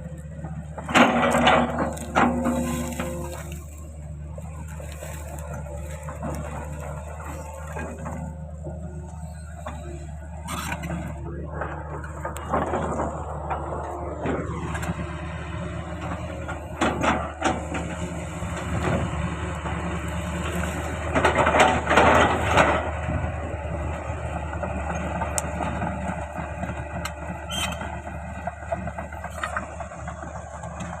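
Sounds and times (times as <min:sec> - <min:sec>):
scraping and squealing: 0:00.0 - 0:23.3, 0:25.4 - 0:29.8
excavator diesel engine running: 0:00.0 - 0:31.0.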